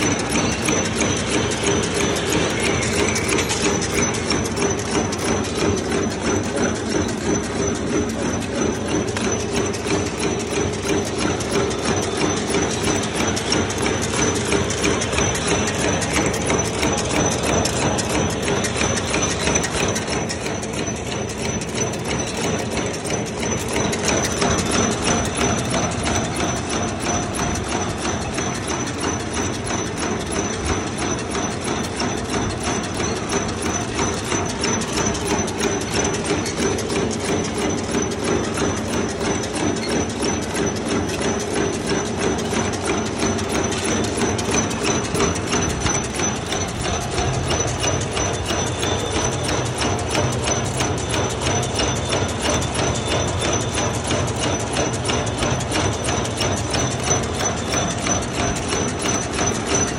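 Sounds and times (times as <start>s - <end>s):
high machine whine: 0.0s - 59.9s
packing machine clatter: 0.0s - 59.9s.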